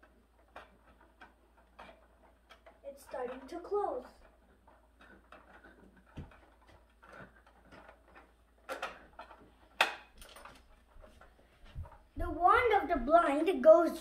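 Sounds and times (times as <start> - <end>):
window blind slats rattling: 0.0 - 14.0.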